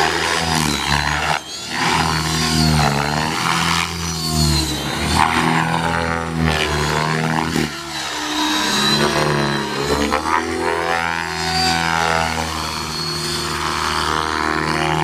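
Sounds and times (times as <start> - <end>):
rc helicopter rotor and motor whine: 0.0 - 15.0.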